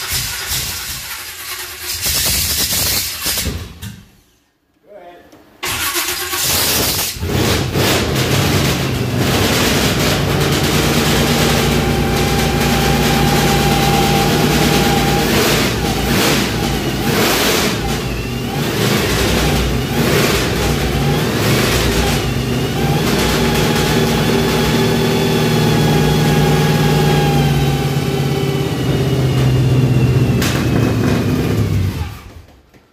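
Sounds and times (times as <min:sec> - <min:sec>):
engine throttle revs: 0:05.6 - 0:32.3.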